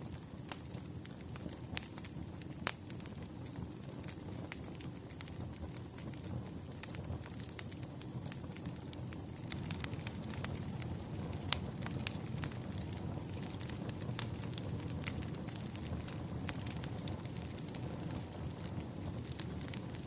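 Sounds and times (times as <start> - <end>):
fire pops and snaps: 0.0 - 20.0
low rumble of burning logs: 0.0 - 20.0.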